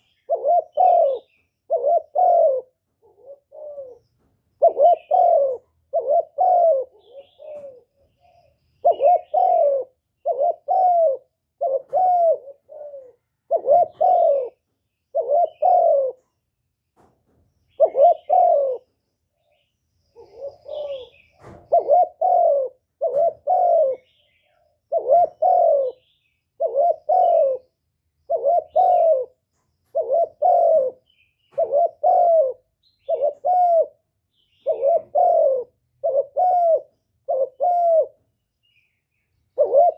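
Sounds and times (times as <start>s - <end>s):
dove cooing: 0.0s - 16.4s, 17.7s - 19.0s, 20.1s - 38.3s, 39.5s - 39.9s.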